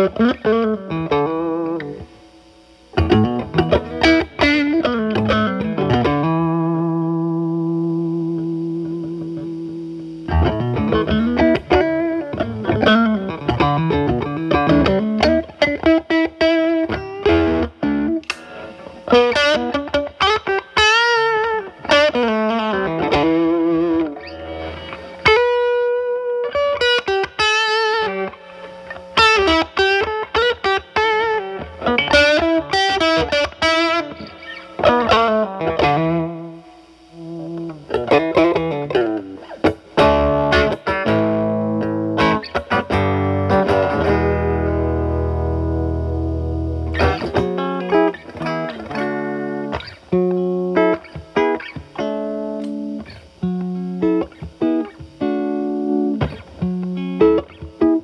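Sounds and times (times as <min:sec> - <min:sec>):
overdriven electric guitar blues lead: 0:00.0 - 0:58.0.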